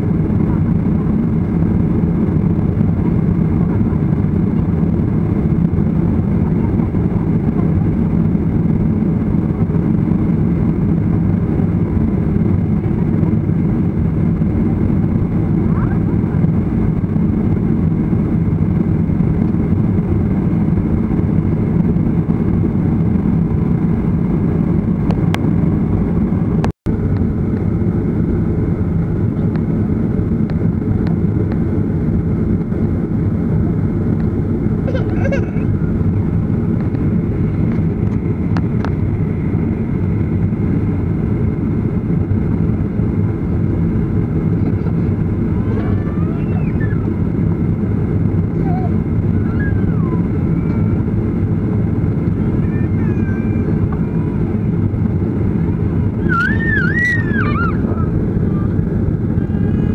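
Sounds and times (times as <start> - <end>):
jet engine rumble inside cabin: 0.0 - 59.9.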